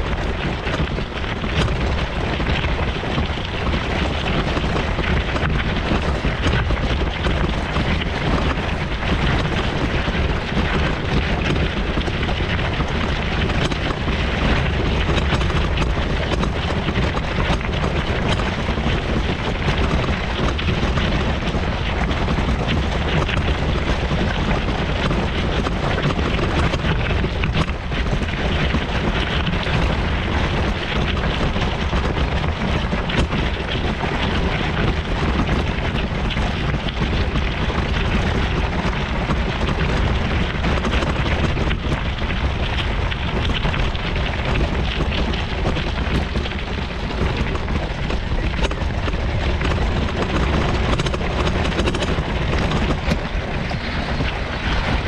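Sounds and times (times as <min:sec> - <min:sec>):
scooter jolting on rough path: 0:00.0 - 0:55.0
wind buffeting microphone: 0:00.0 - 0:55.0.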